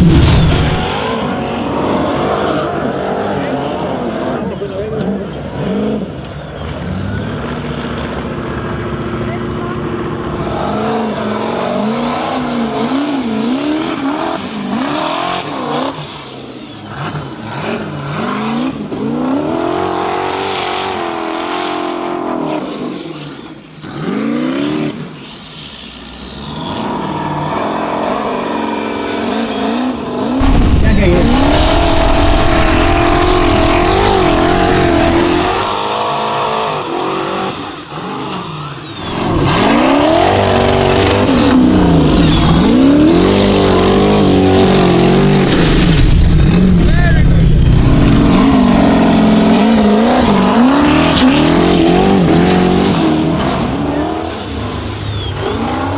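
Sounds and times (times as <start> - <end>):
buggy engine revving hard: 0.0 - 25.3, 26.1 - 55.9.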